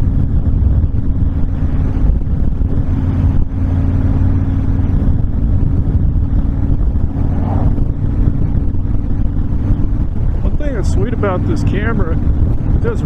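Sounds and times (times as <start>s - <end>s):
motorcycle engine rumbling: 0.0s - 13.0s
wind noise on microphone: 0.0s - 13.0s.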